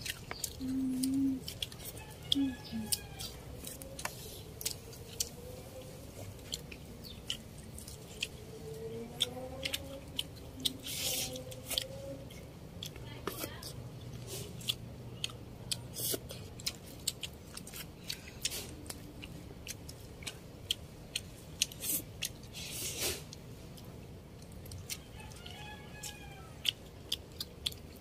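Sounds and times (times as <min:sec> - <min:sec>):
people chewing food: 0:00.0 - 0:28.0.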